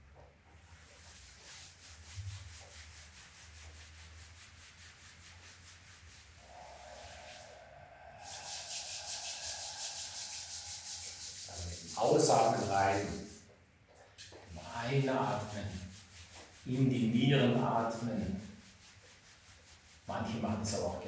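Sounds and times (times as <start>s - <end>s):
hands rubbing on shirt: 0.5s - 7.6s, 8.2s - 13.6s, 14.2s - 21.0s
palms rubbing together: 0.5s - 21.0s.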